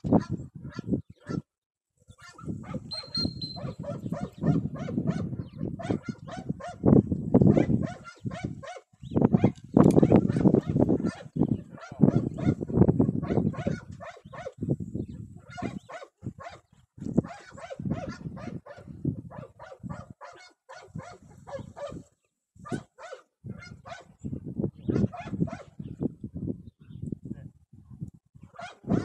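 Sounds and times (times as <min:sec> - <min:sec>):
dog barking: 0:00.2 - 0:01.5, 0:02.2 - 0:06.9, 0:07.5 - 0:14.6, 0:15.4 - 0:24.1, 0:24.9 - 0:25.8, 0:28.5 - 0:29.0.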